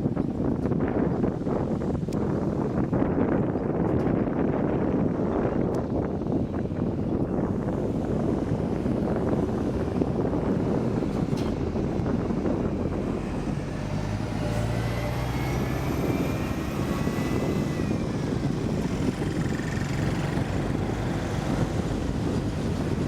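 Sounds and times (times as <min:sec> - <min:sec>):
aircraft engine whine: 0:00.0 - 0:23.0
wind buffeting microphone: 0:00.0 - 0:23.0.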